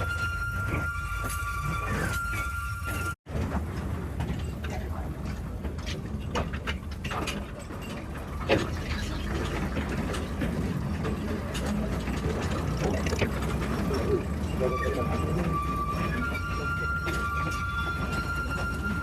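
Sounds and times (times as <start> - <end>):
cars rattling on rails: 0.0 - 19.0
locomotive engine rumble: 0.0 - 19.0.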